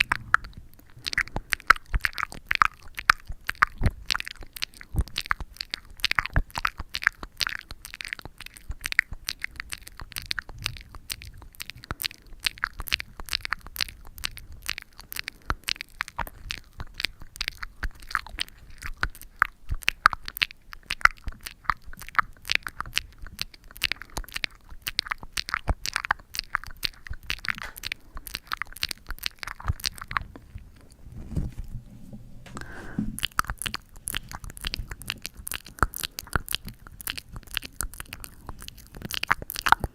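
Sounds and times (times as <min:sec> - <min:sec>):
sticky tacky crackling: 0:00.0 - 0:39.9.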